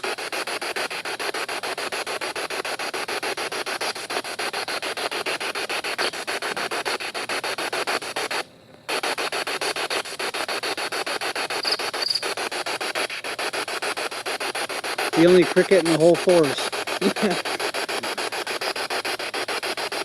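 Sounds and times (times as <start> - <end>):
radio static with rapid clicks: 0.0 - 20.0.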